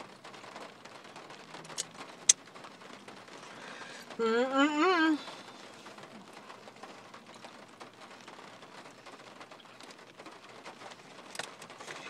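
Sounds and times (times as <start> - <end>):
rain pattering on car roof: 0.0 - 12.0.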